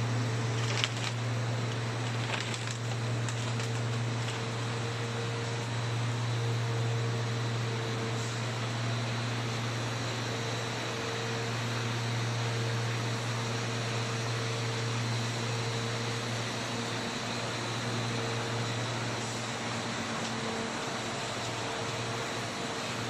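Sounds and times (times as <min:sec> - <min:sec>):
fan-like hiss: 0:00.0 - 0:23.0
low machine hum: 0:00.0 - 0:23.0.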